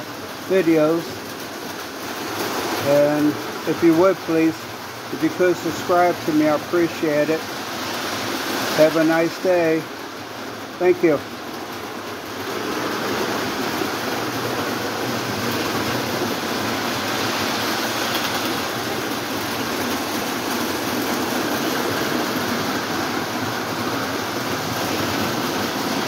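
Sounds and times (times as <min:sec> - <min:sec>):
toy trains running on track: 0:00.0 - 0:26.0.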